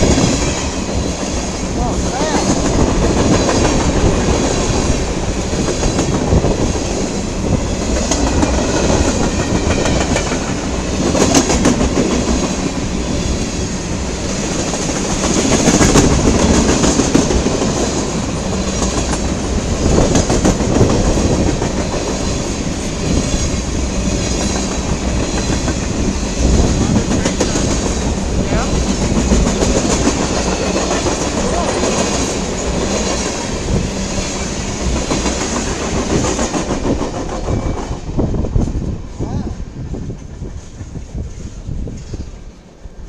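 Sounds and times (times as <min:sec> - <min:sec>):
train wheels clattering over rail joints: 0:00.0 - 0:38.9
train rumble: 0:00.0 - 0:43.0.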